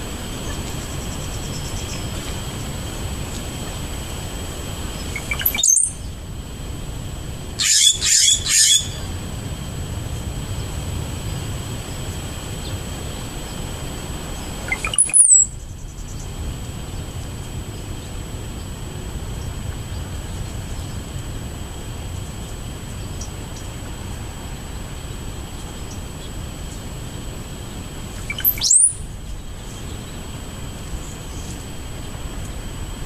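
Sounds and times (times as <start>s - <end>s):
wild birds calling: 0.0s - 9.4s, 11.8s - 32.9s
low background rumble: 0.0s - 33.0s.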